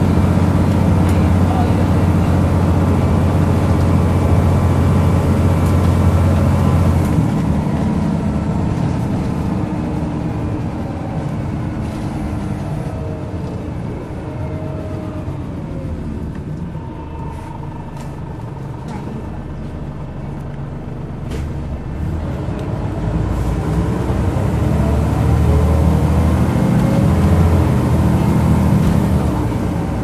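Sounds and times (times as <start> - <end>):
bus engine droning: 0.0 - 30.0
road and drivetrain rumble: 0.0 - 30.0.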